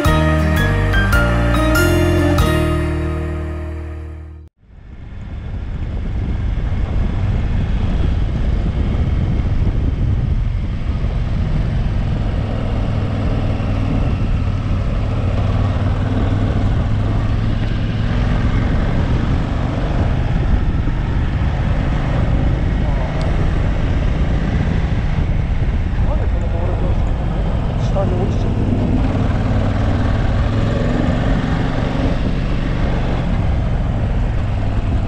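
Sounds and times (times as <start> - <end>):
motorcycle engine cruising: 0.0 - 35.0
wind rushing over microphone: 4.6 - 35.0.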